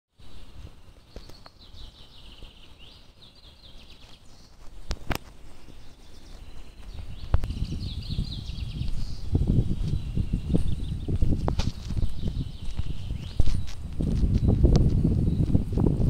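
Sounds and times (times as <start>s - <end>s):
small birds singing: 0.2s - 16.0s.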